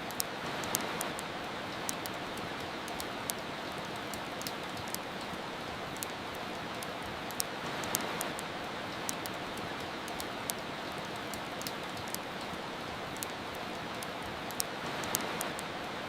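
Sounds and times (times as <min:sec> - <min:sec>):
steady rain hiss: 0:00.0 - 0:16.0
wood fire crackling: 0:00.0 - 0:16.0.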